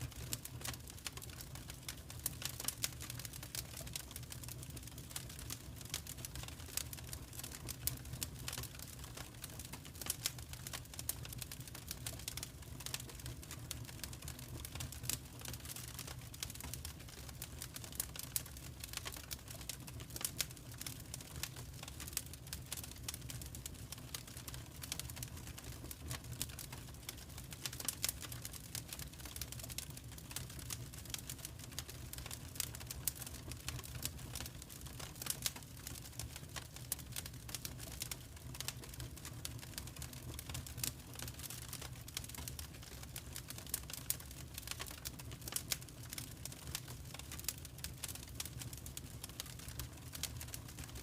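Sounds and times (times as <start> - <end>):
low rumble of burning fire: 0.0 - 51.0
wood fire crackling: 0.0 - 51.0.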